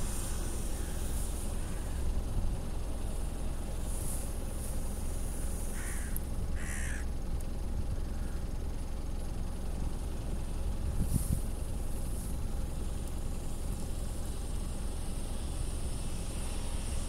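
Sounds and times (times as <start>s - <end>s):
wheels spinning in snow: 0.0s - 7.0s, 9.9s - 17.0s
car engine under load: 0.0s - 17.0s.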